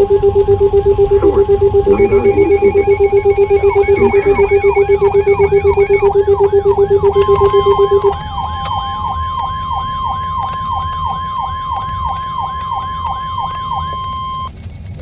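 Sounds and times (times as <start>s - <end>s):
siren-like falling sweep: 0.0s - 14.5s
fast-pulsing low beeping: 0.0s - 15.0s
warning alarm tone: 0.0s - 15.0s.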